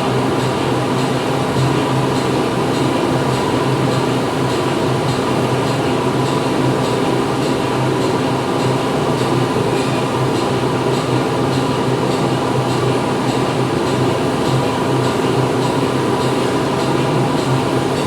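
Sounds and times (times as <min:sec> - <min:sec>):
factory machinery humming: 0:00.0 - 0:18.0.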